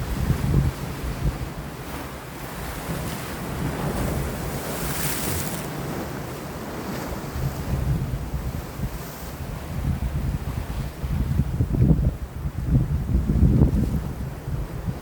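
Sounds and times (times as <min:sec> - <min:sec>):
sea waves washing against rocks: 0:00.0 - 0:15.0
wind gusting on microphone: 0:00.0 - 0:15.0.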